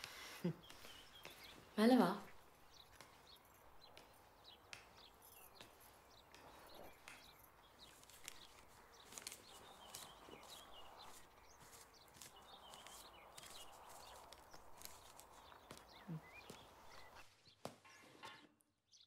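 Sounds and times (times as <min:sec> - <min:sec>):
faint high bird chirps: 0:00.4 - 0:19.0.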